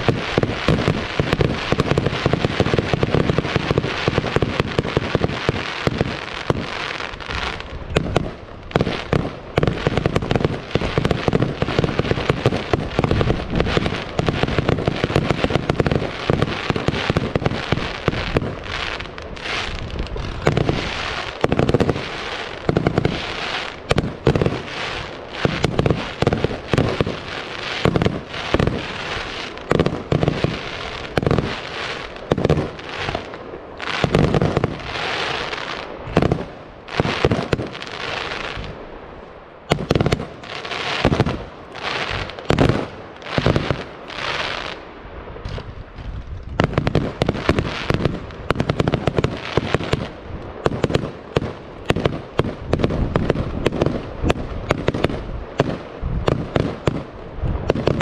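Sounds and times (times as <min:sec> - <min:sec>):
fireworks bursts and bangs: 0:00.0 - 0:38.9, 0:39.7 - 0:44.8, 0:45.4 - 0:58.0.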